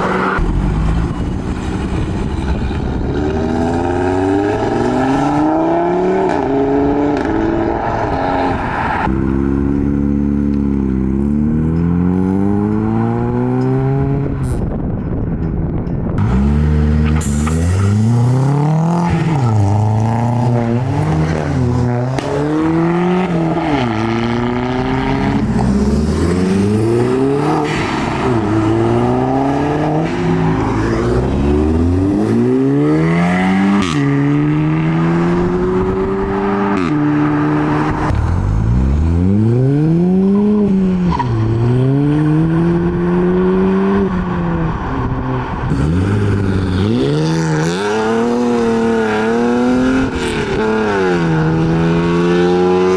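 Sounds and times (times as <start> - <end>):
car engines revving and accelerating: 0.0 - 15.3, 16.1 - 52.9.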